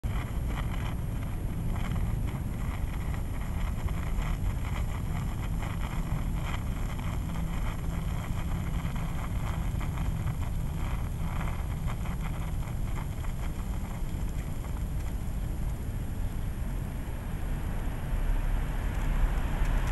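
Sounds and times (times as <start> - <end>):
faint crackles: 0.0 - 19.9
wind buffeting microphone: 0.0 - 19.9.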